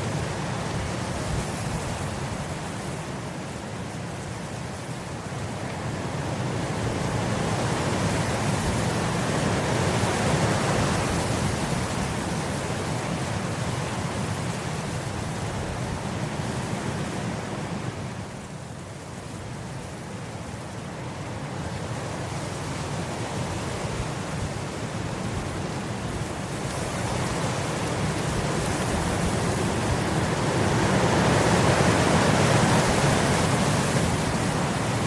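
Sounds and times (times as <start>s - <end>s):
wind blowing across grass: 0.0s - 35.0s.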